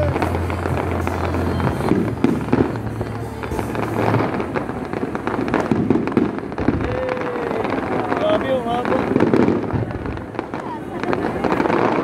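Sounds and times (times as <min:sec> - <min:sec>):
fireworks shells bursting: 0:00.0 - 0:12.0.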